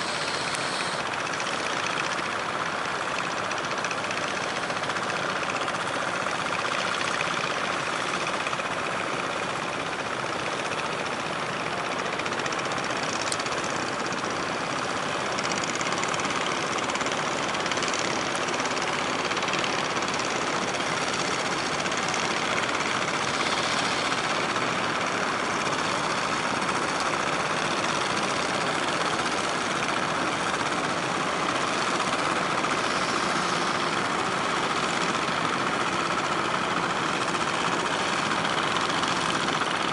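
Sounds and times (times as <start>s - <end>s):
boat engines running: 0.0s - 39.9s.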